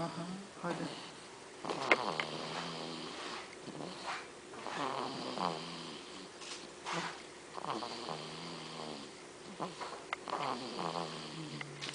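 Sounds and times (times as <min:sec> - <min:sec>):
snoring with droning tone: 0:00.8 - 0:06.3, 0:06.9 - 0:11.8.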